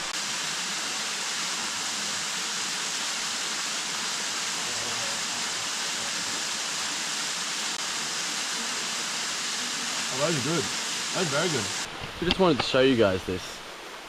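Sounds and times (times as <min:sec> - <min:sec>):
waterfall rushing water: 0:00.0 - 0:14.0.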